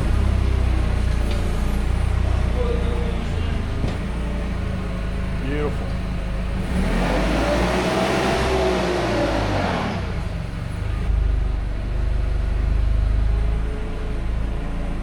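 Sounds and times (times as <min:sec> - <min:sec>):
forklift running: 0:00.0 - 0:15.0
forklift whine: 0:00.0 - 0:15.0.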